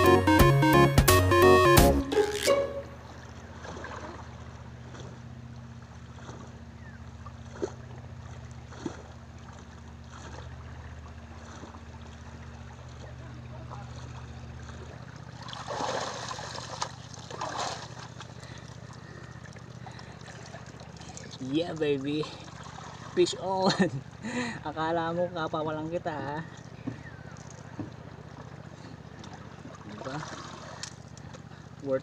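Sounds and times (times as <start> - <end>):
low steady hum: 0.0 - 32.0
water sloshing and splashing: 2.2 - 32.0.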